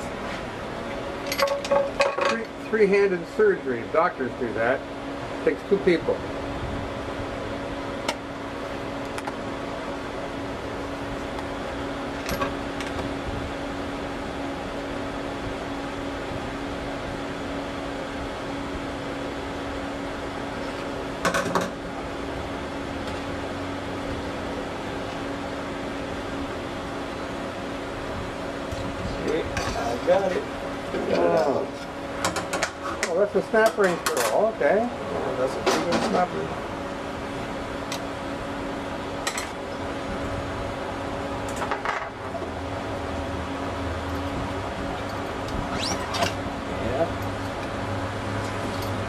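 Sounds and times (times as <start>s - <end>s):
mechanical hum: 0.0s - 49.0s.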